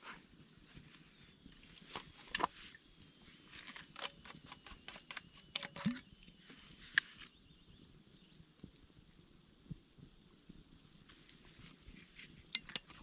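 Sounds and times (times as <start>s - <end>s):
campfire crackling and popping: 0.3s - 13.0s.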